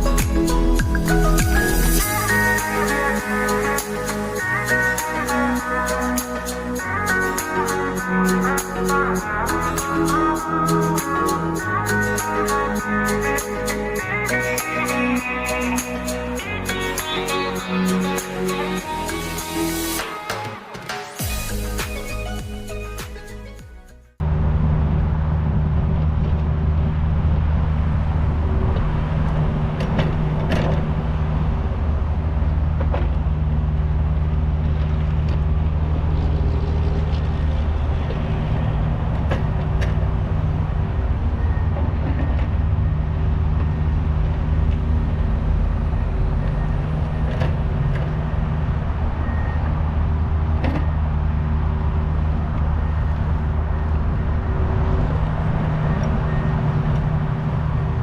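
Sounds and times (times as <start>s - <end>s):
excavator diesel engine running: 0.0s - 23.6s, 24.2s - 58.0s.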